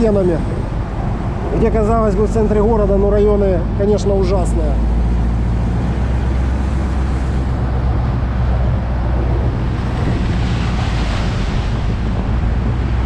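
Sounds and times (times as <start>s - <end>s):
boat engine droning: 0.0s - 13.0s
water noise: 0.0s - 13.0s
wind noise: 0.0s - 13.0s.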